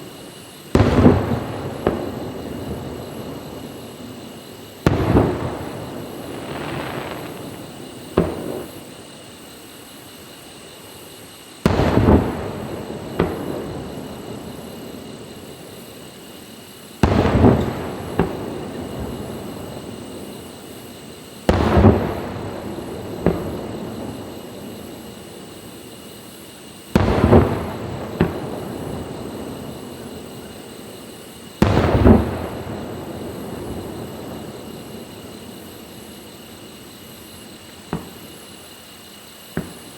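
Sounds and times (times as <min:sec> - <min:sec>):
firework shells bursting: 0:00.0 - 0:39.9.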